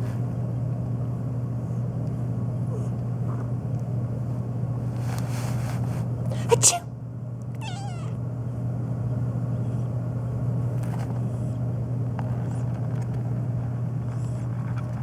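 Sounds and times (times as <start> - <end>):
low motor-like hum: 0.0 - 15.0.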